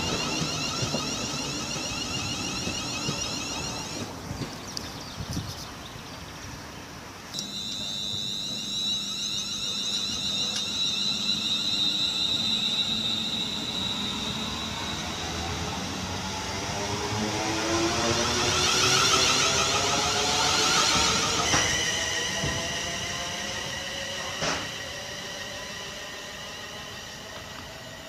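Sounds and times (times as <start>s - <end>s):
rising train whining tones: 0.0s - 4.8s, 7.4s - 28.0s
electric train whine: 0.0s - 4.9s, 7.3s - 28.0s.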